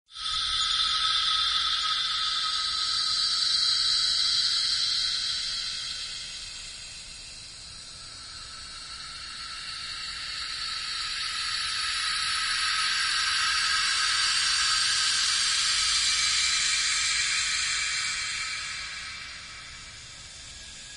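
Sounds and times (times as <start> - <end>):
high-pitched hiss: 0.1 - 20.9.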